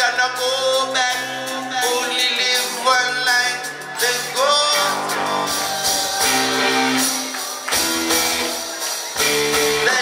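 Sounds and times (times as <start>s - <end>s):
live band playing: 0.0s - 10.0s.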